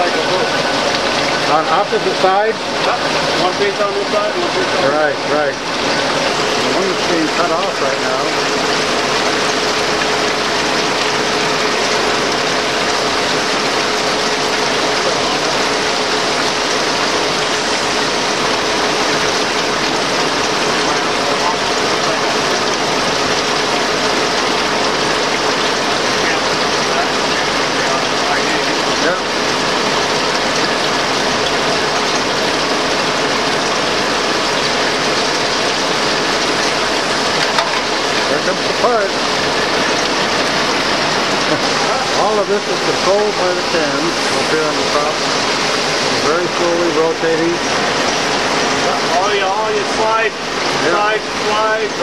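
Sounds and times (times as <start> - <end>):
automatic lathe running: 0.0 - 52.0
coolant splashing: 0.0 - 52.0.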